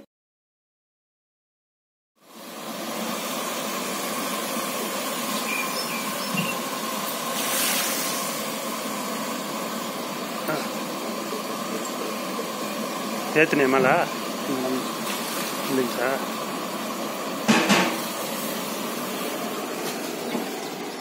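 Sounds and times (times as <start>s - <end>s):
burner fire hissing roar: 2.2s - 21.0s.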